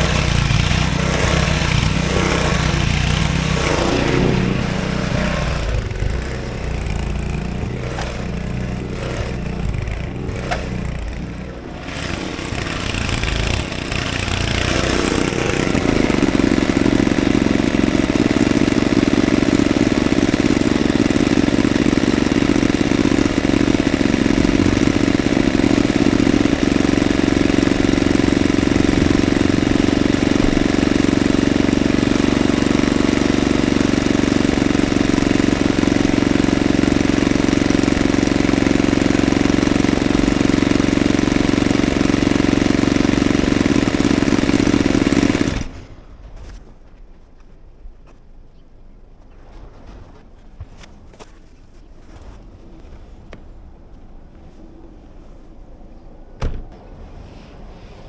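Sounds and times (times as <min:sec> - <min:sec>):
snowblower engine running: 0:00.0 - 0:47.0.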